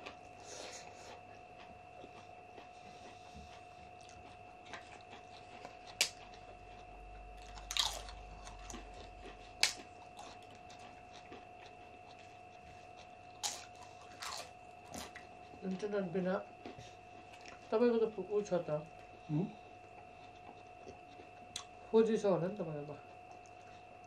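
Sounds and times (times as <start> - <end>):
biting and chewing: 0.0 - 15.9, 16.5 - 17.7, 19.7 - 21.8, 23.0 - 24.0
faint steady hum: 0.0 - 24.0.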